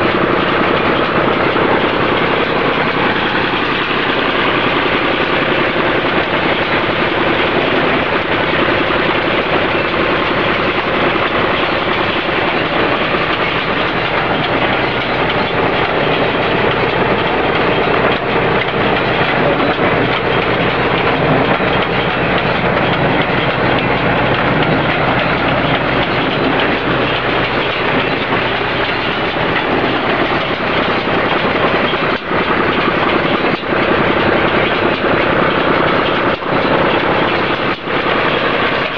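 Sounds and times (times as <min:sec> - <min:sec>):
baler mechanical clatter: 0:00.0 - 0:38.9
tractor engine drone: 0:00.0 - 0:38.9.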